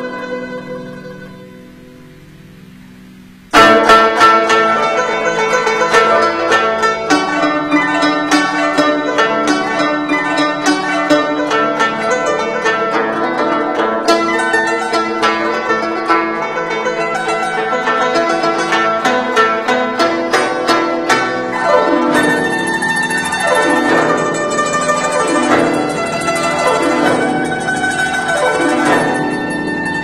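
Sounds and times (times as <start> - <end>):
plucked zither playing: 0.0 - 30.0.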